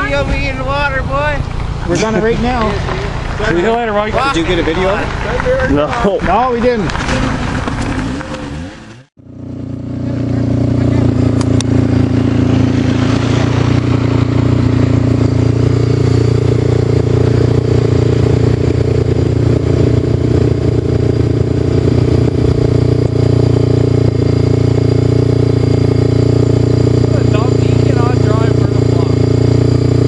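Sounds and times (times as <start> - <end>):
vehicle engine running steadily: 0.0 - 30.0.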